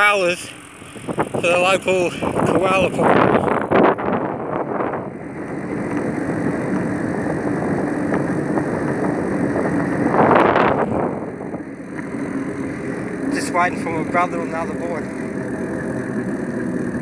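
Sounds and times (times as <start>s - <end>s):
wind rushing over microphone: 0.8s - 17.0s.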